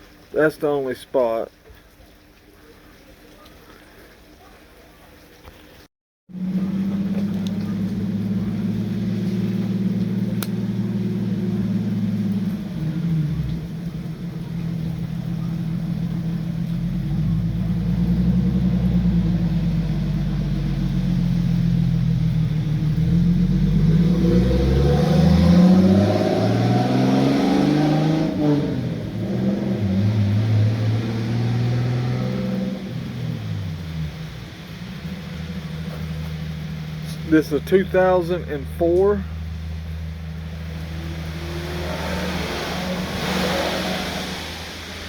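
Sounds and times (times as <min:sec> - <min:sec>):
vehicle engine revving: 0:06.3 - 0:45.0.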